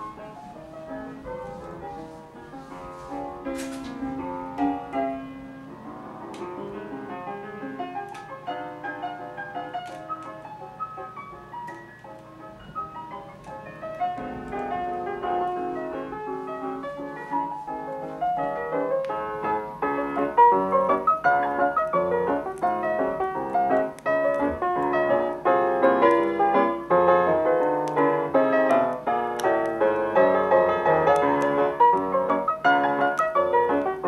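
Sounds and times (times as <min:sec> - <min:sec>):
piano music through speakers: 0:00.0 - 0:34.0.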